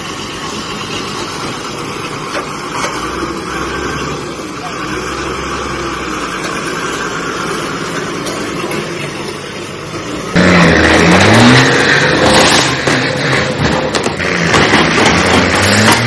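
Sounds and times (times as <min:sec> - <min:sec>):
truck engine revving: 0:00.0 - 0:16.0
truck engine running: 0:00.0 - 0:16.0.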